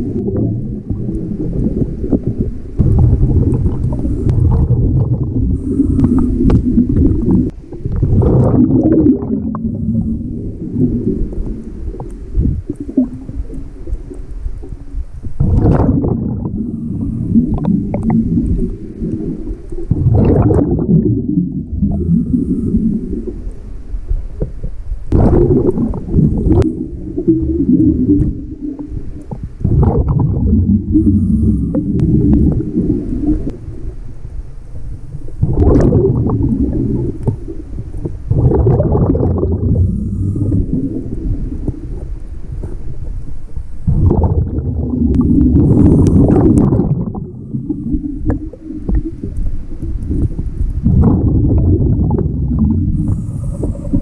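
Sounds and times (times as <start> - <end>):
underwater bubbling exhalations: 0.0 - 34.0, 35.1 - 43.2, 43.8 - 54.0.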